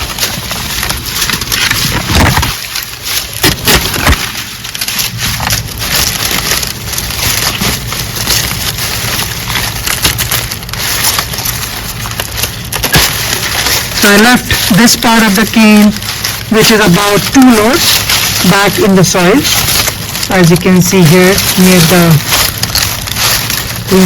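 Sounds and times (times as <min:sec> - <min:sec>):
crackling rustle: 0:00.0 - 0:24.0.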